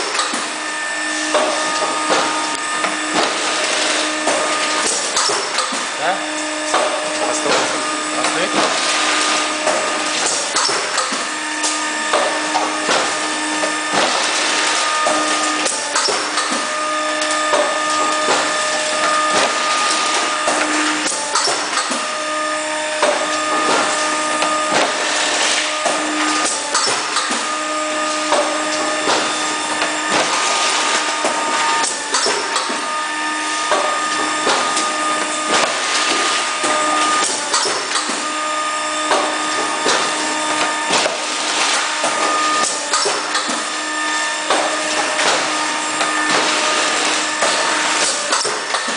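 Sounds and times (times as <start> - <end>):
motor humming: 0.0 - 48.9.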